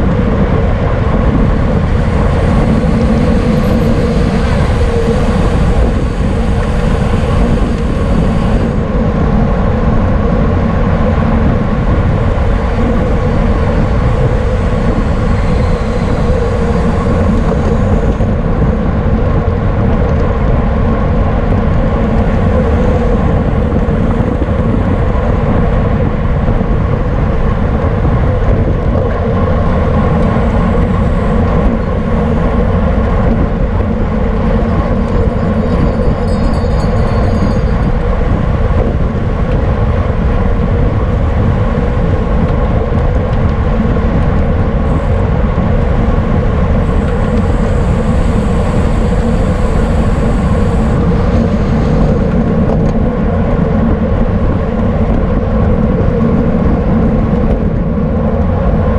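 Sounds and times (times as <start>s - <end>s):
bicycle tyres humming: 0.0s - 58.9s
wind rushing over microphone: 0.0s - 58.9s.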